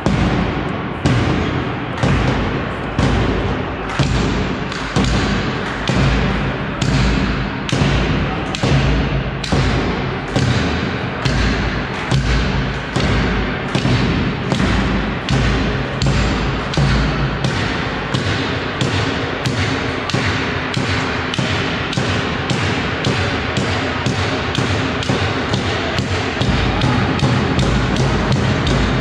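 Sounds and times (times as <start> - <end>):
heavy thuds in echoing hall: 0.0 - 29.0.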